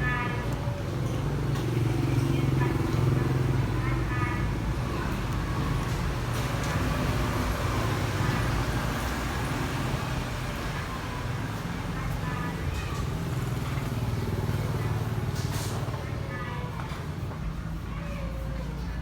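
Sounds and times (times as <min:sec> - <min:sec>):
faint indistinct voices: 0:00.0 - 0:19.0.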